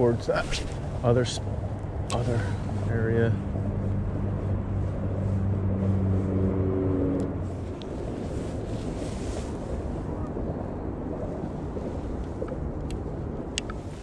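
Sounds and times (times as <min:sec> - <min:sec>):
engine humming: 0:00.0 - 0:14.0
wind on microphone: 0:00.0 - 0:14.0.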